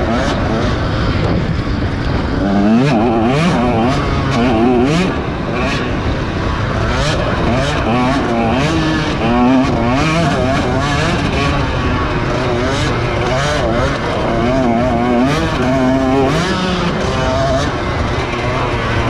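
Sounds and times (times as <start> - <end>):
racing engines revving: 0.0 - 19.0.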